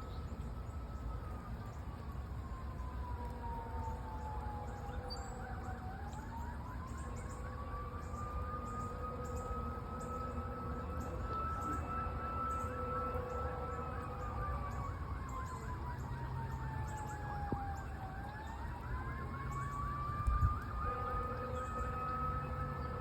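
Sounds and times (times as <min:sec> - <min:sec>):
wail siren: 0:00.0 - 0:23.0
yelp siren: 0:00.0 - 0:23.0.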